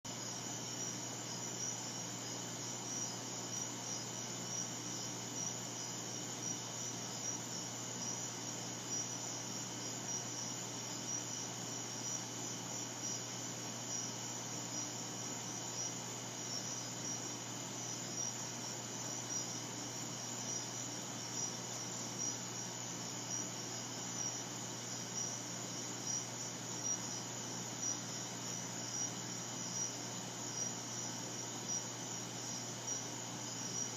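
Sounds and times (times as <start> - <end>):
crickets chirping: 0.1 - 33.9.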